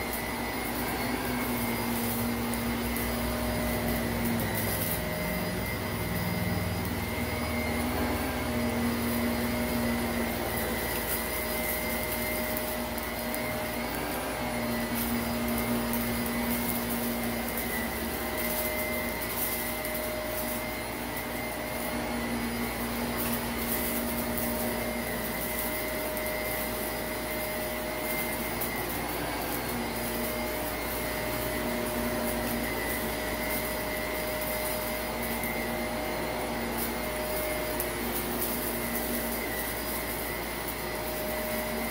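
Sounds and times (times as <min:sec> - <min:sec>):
grit crackling into vacuum: 0:00.0 - 0:41.9
upright vacuum cleaner running: 0:00.0 - 0:41.9.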